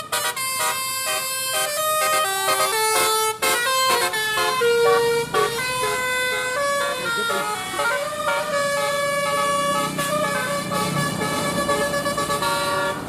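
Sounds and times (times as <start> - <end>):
bus musical air horn: 0.0 - 13.0.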